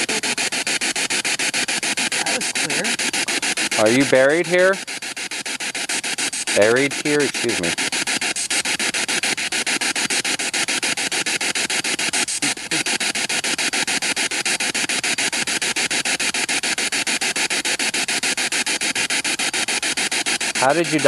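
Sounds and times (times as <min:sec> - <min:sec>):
choppy radio static: 0:00.0 - 0:21.0.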